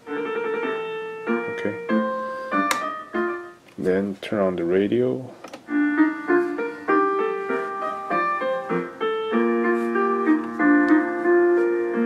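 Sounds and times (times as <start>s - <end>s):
piano music from small speaker: 0.0s - 3.6s, 4.6s - 12.0s.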